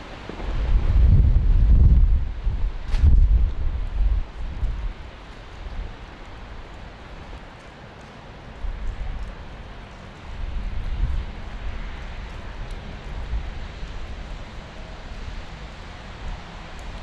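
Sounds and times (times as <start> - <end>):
wind buffeting microphone: 0.0 - 6.7, 8.6 - 17.0
rain hissing: 0.0 - 17.0.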